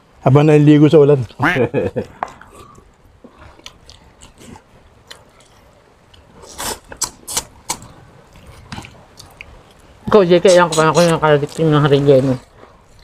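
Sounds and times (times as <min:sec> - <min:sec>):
people chewing and lip smacking: 0:01.2 - 0:11.7, 0:12.4 - 0:13.0.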